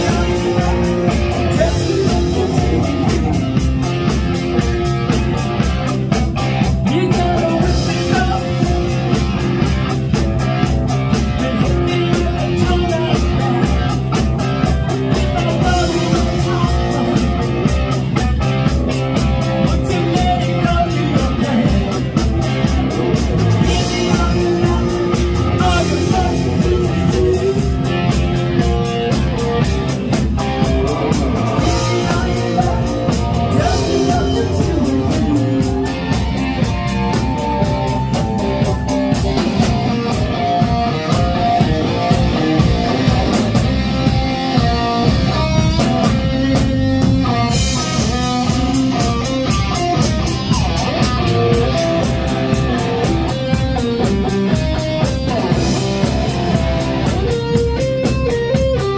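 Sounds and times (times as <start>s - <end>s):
electric guitar: 0.0s - 58.9s
keyboard: 0.0s - 58.9s
steady drum beat: 0.0s - 58.9s.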